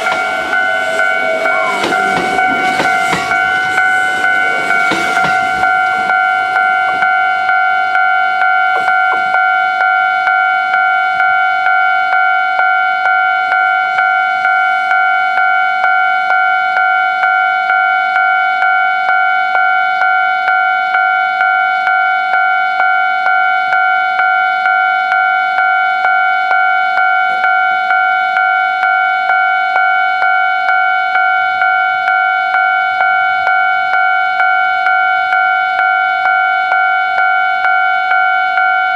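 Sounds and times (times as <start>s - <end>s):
level crossing alarm bell: 0.0s - 38.9s.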